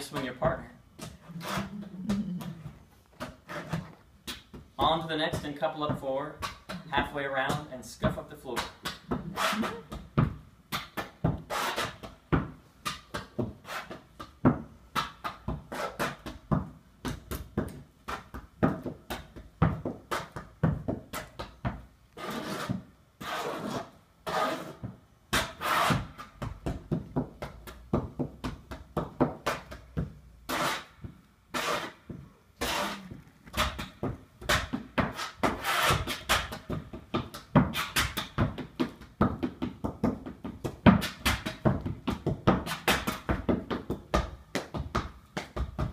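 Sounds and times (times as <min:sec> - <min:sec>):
shoes scuffing: 0:00.0 - 0:19.0, 0:19.6 - 0:45.9
shoes tapping on wooden board: 0:00.0 - 0:22.9, 0:24.5 - 0:45.9.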